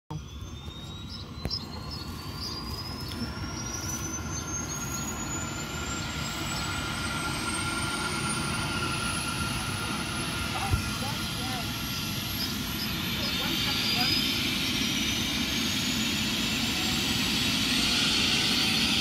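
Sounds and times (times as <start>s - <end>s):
low engine rumble: 0.1s - 17.8s
helicopter turbine engines winding up: 0.1s - 19.0s.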